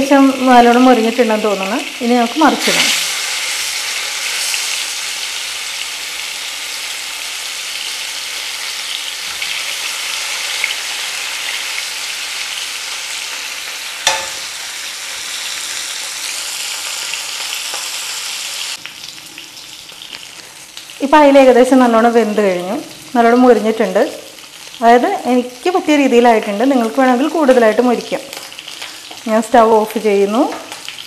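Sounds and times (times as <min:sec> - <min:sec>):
fish sizzling in a pan: 0:00.0 - 0:31.0.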